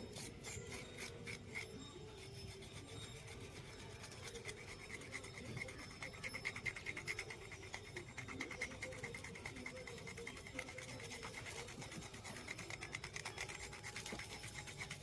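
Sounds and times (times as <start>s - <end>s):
scraping strokes on singed skin: 0.0s - 15.0s.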